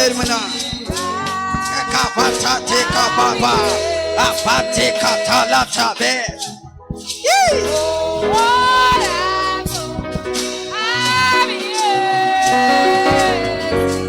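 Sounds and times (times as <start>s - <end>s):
gospel singing with instruments: 0.0s - 14.0s.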